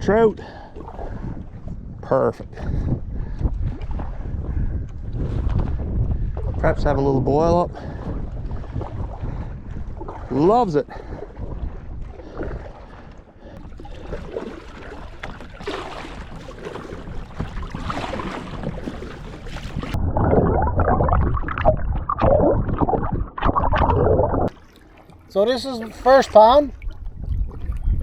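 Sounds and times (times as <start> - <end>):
rush of wind and water: 0.0 - 28.0
water gurgling against hull: 0.0 - 28.0
paddle dipping in water: 0.4 - 1.9, 2.6 - 6.7, 7.7 - 28.0.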